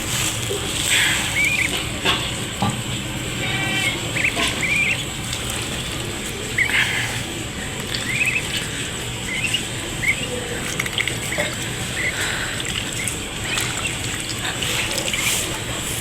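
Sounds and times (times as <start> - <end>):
steady background noise: 0.0 - 16.0
small birds chirping: 0.9 - 2.0, 3.4 - 15.6.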